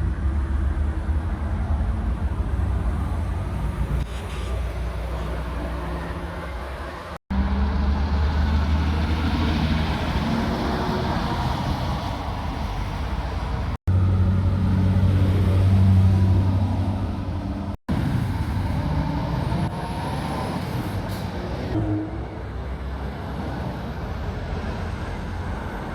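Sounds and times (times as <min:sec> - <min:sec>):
lorry diesel engines driving past: 0:00.0 - 0:25.9.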